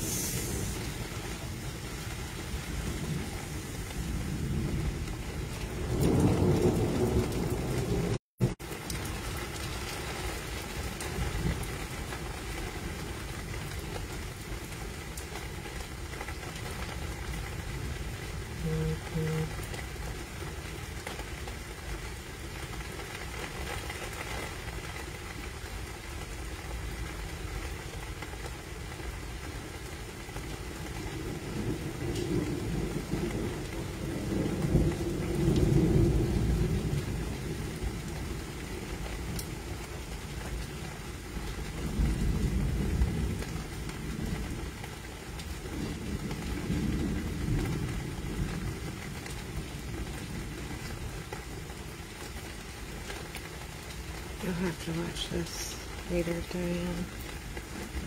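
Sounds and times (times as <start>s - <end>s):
low rumble of thunder: 0.0s - 22.8s, 24.5s - 55.2s
steady rain: 0.0s - 58.0s.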